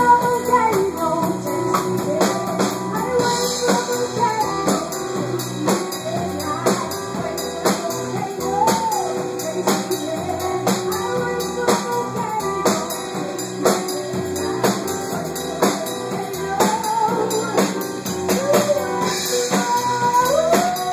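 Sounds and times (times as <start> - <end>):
person singing: 0.0 - 20.9
drum beat: 1.4 - 20.9.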